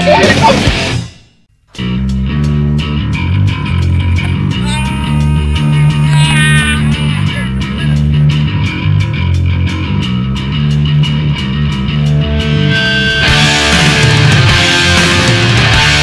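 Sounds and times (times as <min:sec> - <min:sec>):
rock music with bass and guitar: 0:00.0 - 0:01.2, 0:01.8 - 0:06.2, 0:06.8 - 0:16.0
distorted guitar: 0:01.6 - 0:16.0.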